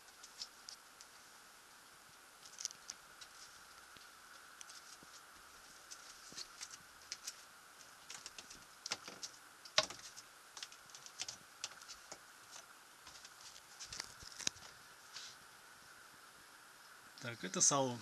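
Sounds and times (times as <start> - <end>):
faint high hum: 0.0 - 18.0.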